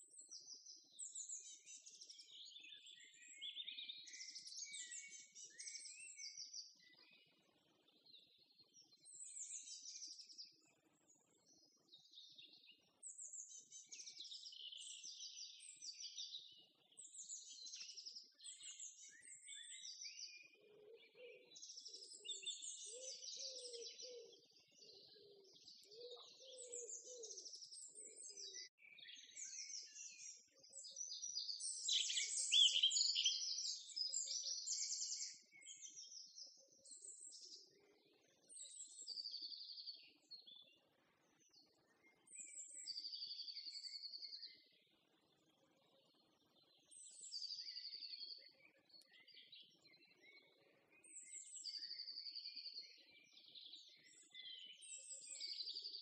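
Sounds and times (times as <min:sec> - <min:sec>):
faint birdsong: 0:00.0 - 0:56.0.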